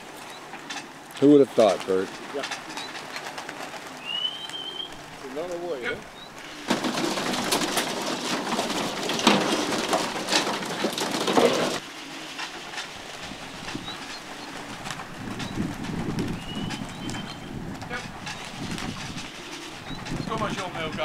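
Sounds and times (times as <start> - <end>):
pigeons cooing: 0.0 - 21.0
pigeons flapping wings: 0.0 - 21.0.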